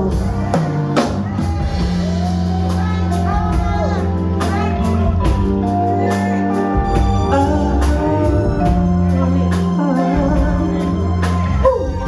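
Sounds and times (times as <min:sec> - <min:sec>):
bass: 0:00.0 - 0:12.0
organ chords: 0:00.0 - 0:12.0
steady drum beat: 0:00.0 - 0:12.0.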